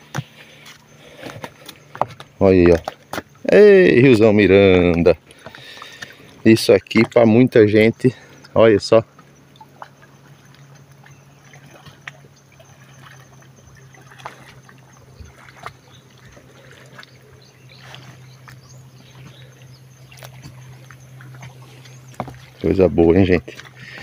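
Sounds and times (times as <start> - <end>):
river water trickling: 0.0 - 24.0.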